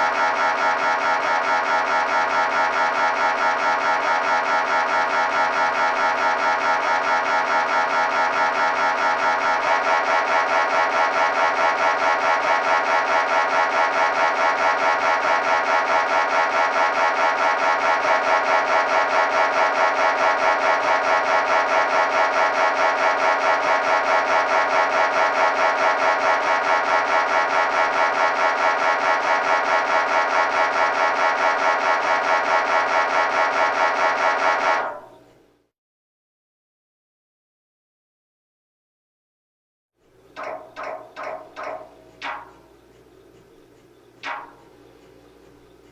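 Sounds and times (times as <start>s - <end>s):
mri scanner pulsing buzz: 0.0s - 35.7s, 40.0s - 45.9s.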